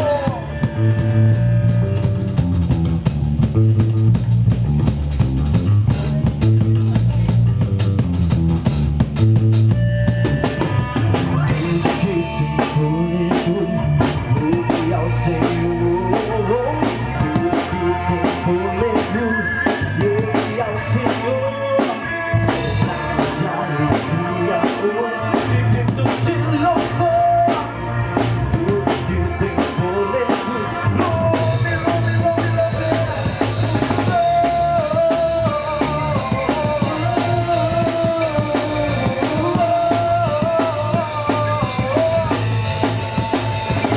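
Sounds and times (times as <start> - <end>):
drum kit beat: 0.0 - 43.9
melodic lead line: 0.0 - 43.9
worship band playing: 0.0 - 43.9.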